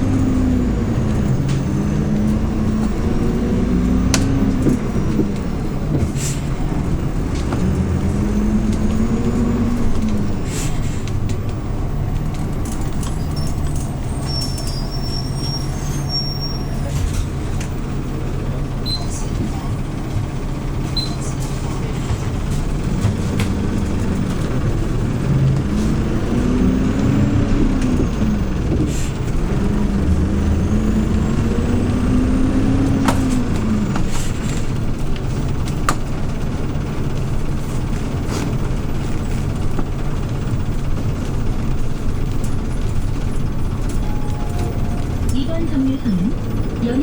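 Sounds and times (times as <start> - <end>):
bus engine rumbling: 0.0 - 47.0.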